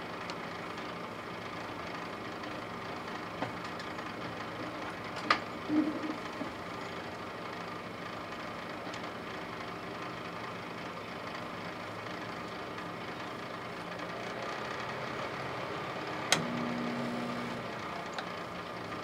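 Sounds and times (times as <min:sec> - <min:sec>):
microwave oven humming: 0:00.0 - 0:19.0.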